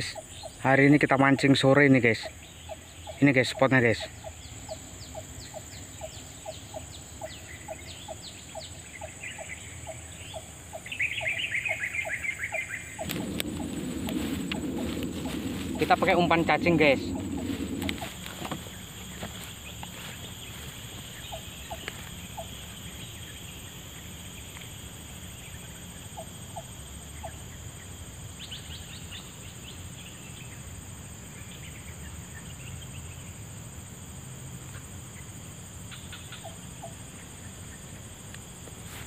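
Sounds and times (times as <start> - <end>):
high-pitched insect drone: 0.0 - 38.6.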